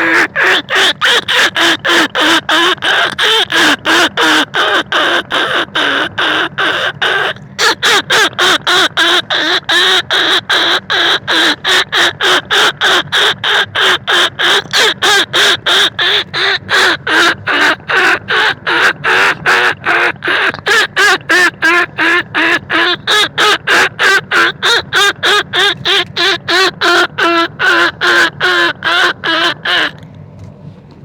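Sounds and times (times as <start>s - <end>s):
rats squeaking: 0.0s - 27.4s.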